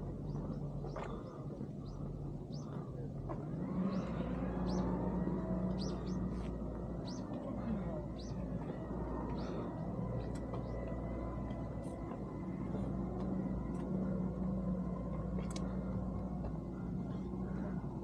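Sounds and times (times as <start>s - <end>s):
motor vehicle engine rumble: 0.0s - 18.0s.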